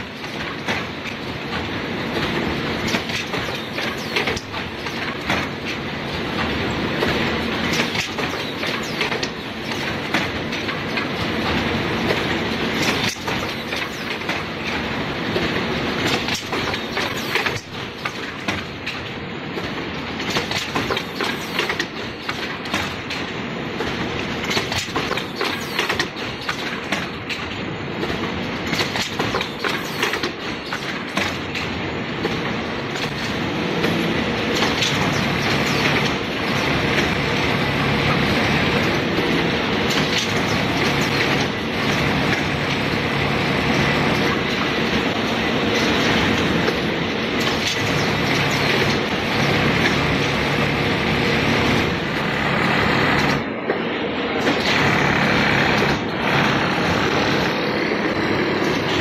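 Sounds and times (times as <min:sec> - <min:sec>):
continuous machine whir: 0:00.0 - 0:59.0
machine clattering: 0:00.0 - 0:59.0.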